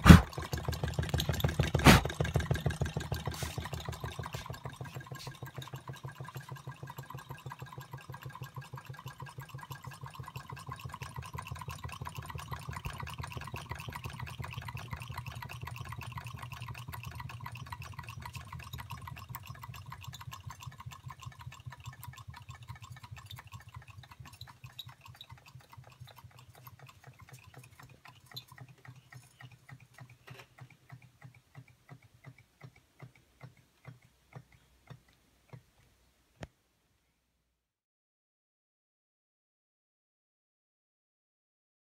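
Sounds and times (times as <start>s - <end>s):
fast even clatter of clicks: 0.0s - 35.7s.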